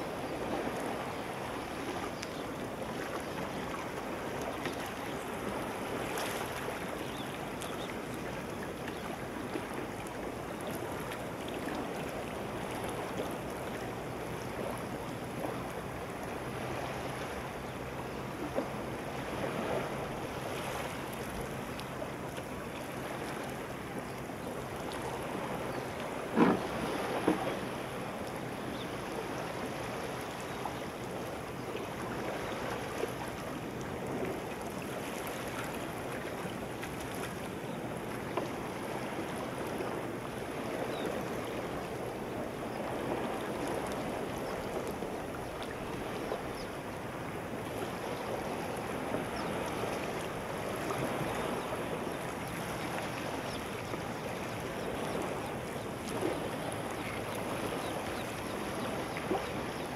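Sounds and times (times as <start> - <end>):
seawater gently lapping: 0.0 - 59.9.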